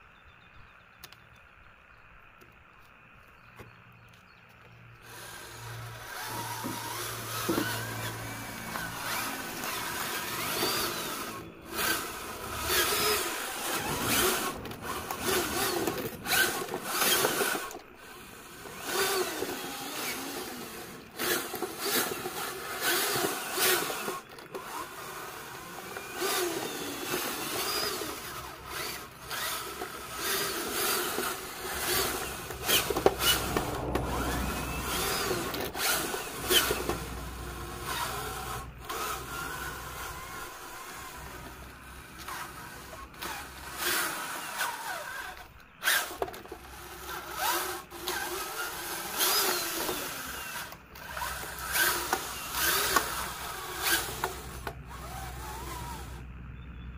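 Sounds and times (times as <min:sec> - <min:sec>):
toy truck motor whirring: 0:03.2 - 0:56.3.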